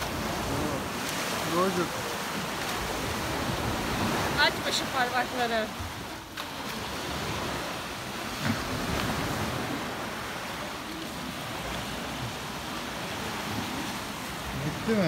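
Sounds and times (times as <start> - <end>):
sea waves on the shore: 0.0 - 15.0.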